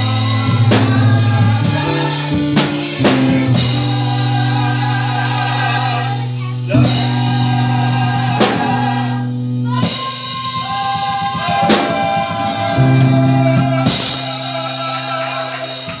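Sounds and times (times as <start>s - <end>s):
choir and band: 0.0s - 16.0s
drum hits and cymbal crashes: 0.0s - 16.0s.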